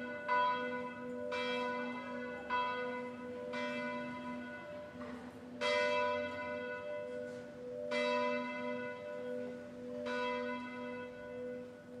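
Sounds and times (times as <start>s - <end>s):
church bell tolling: 0.0s - 12.0s.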